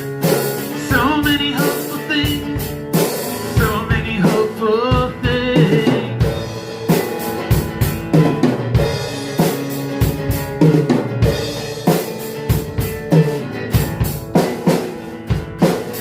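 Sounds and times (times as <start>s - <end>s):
drum kit kick and snare: 0.0s - 16.0s
rock band playing: 0.0s - 16.0s.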